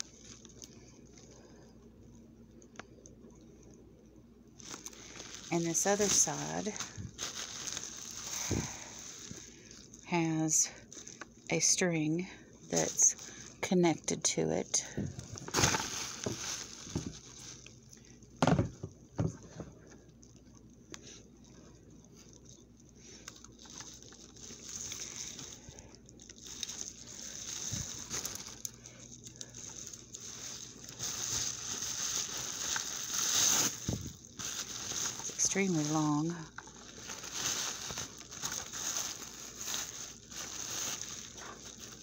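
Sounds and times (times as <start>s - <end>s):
plastic wrapping rustling: 0.0s - 1.6s, 4.6s - 11.8s, 12.6s - 42.0s.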